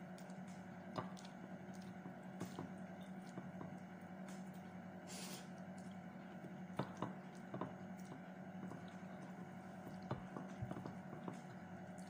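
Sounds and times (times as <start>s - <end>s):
steady low hum: 0.0s - 12.0s
wet chewing: 0.0s - 12.0s.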